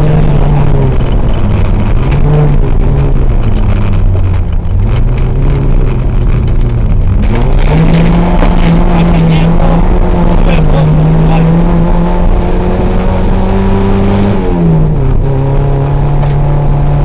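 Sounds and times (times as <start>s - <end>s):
rally car engine revving: 0.0s - 17.0s
road noise: 0.0s - 17.0s.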